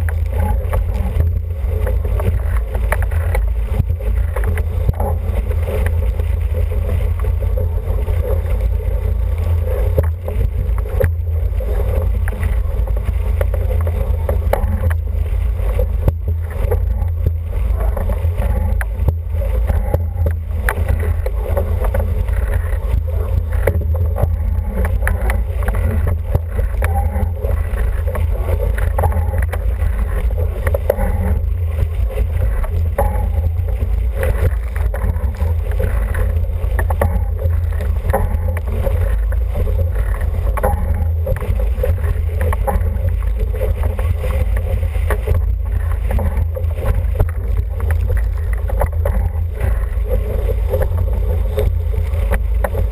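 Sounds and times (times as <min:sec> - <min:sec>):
water rushing past hull: 0:00.0 - 0:52.9.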